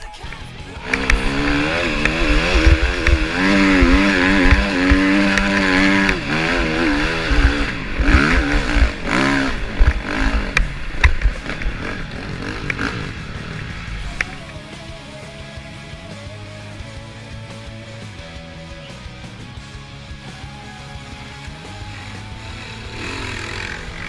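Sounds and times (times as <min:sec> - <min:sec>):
motorcycle engine revving: 0:00.5 - 0:24.0.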